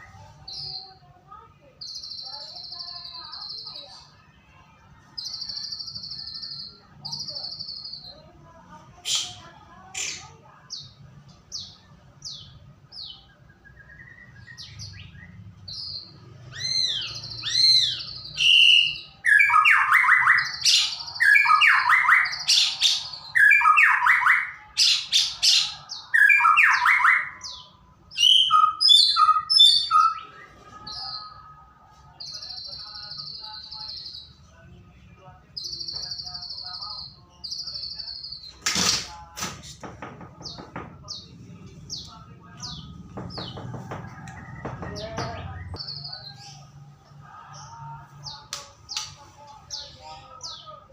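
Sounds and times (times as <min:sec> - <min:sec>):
songbird singing: 0:00.0 - 0:04.2, 0:05.1 - 0:08.3, 0:08.9 - 0:50.9.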